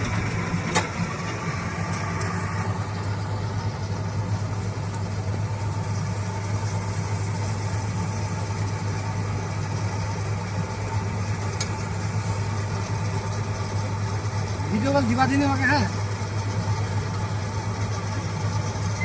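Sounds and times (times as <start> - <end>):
farm machine engine running: 0.0 - 19.0.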